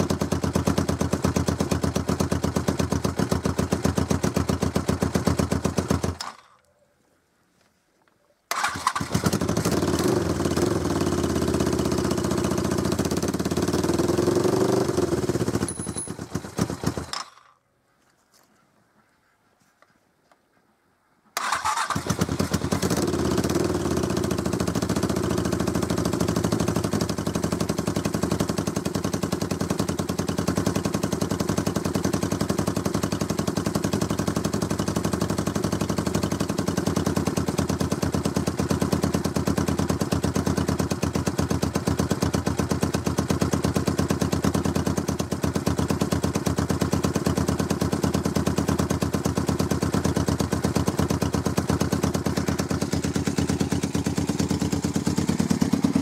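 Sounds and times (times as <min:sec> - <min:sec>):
motorcycle engine starting and running: 0:00.0 - 0:06.6, 0:08.5 - 0:17.6, 0:21.4 - 0:56.0.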